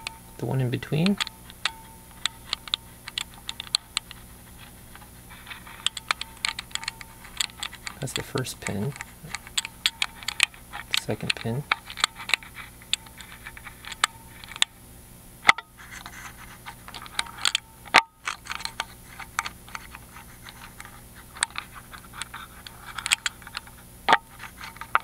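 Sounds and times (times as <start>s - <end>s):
lock pick scraping and clicking: 0.9s - 14.8s, 15.5s - 25.0s.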